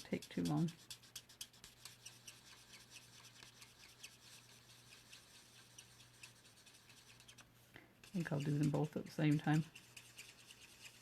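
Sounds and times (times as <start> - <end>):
marker scratching on cardstock: 0.0 - 11.0.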